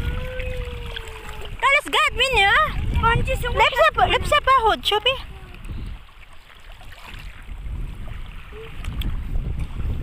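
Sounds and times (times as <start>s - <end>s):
sea water washing at shore: 0.0s - 10.0s
wind buffeting microphone: 0.0s - 10.0s.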